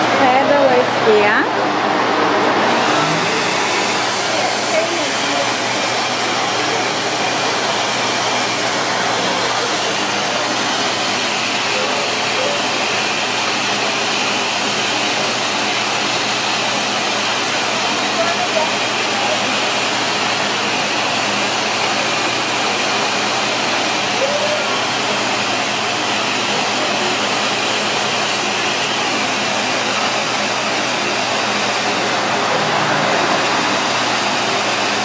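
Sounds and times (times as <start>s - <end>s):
air rushing from nozzle: 2.4s - 35.0s.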